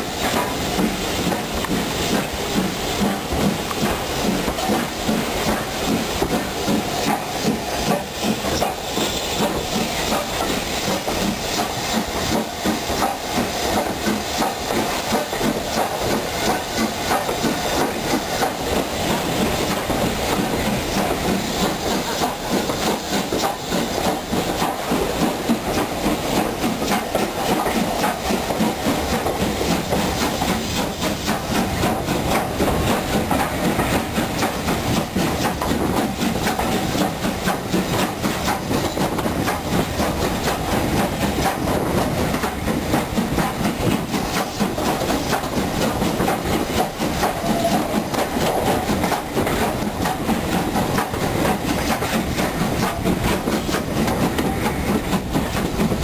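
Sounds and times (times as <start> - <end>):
steam hissing: 0.0 - 56.0
steam locomotive exhaust: 0.0 - 56.0.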